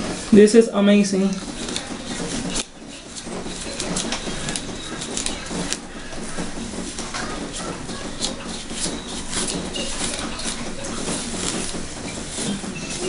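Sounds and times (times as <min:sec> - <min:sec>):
fingers rubbing lathered hair: 0:00.0 - 0:13.0.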